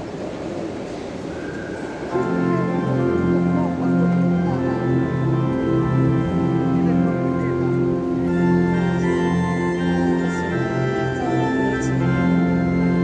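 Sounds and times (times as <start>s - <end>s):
organ playing slow chords: 2.1s - 13.0s.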